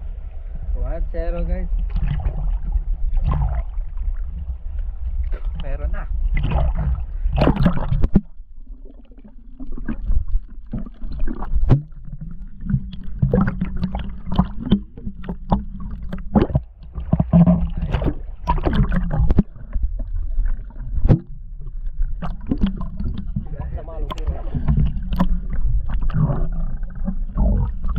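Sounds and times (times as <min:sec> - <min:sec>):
rumble of moving water: 0:00.0 - 0:27.9
water splashing: 0:01.6 - 0:27.9.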